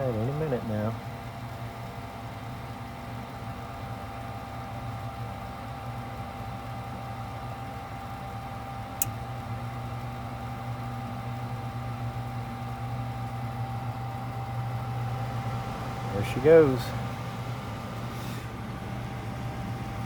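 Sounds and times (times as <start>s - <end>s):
furnace motor humming: 0.0s - 20.0s.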